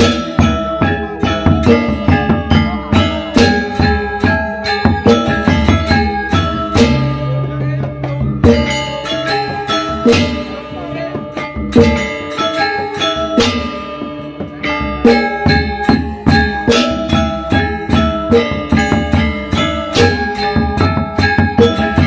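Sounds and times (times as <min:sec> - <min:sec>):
gamelan playing: 0:00.0 - 0:22.0.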